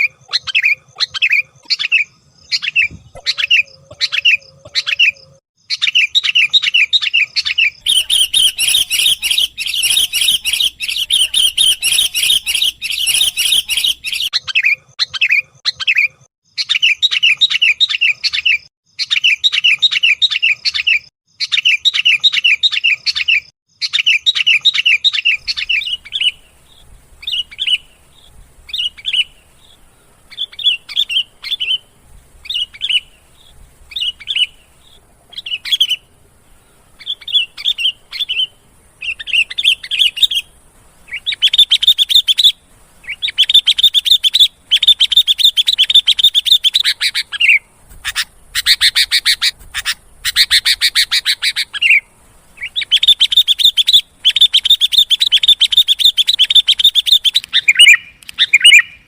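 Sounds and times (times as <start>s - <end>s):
bird chirping rapidly: 0.0s - 59.0s.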